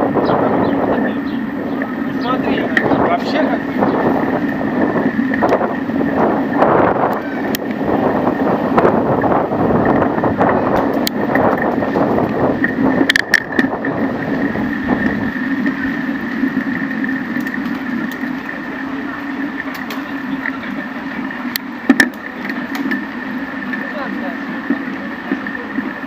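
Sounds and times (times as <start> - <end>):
wind rumble on microphone: 0.0 - 23.8
bicycle clicks and rattles: 0.0 - 26.0
bicycle hum and whine: 0.0 - 26.0.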